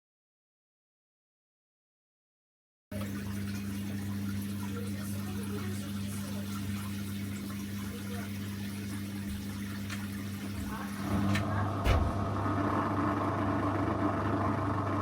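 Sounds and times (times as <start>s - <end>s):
washing machine pump humming: 2.9s - 15.0s
water running in machine: 2.9s - 15.0s.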